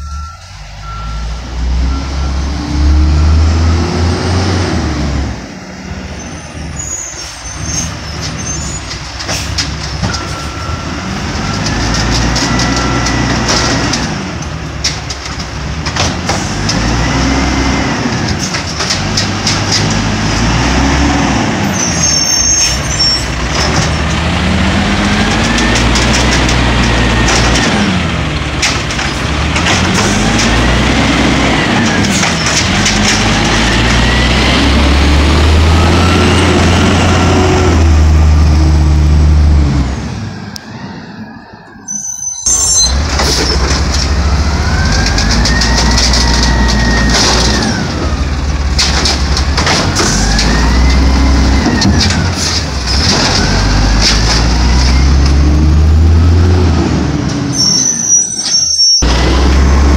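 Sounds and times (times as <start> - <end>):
garbage truck diesel engine revving: 0.5 - 6.2, 10.6 - 40.4, 42.9 - 57.7, 59.0 - 59.9
truck arm lifting cart: 6.1 - 40.6, 41.9 - 59.9.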